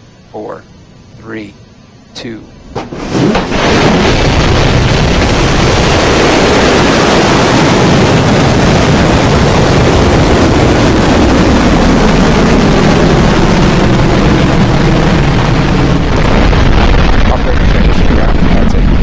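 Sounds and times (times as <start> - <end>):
rocket engines roaring: 0.0 - 19.0.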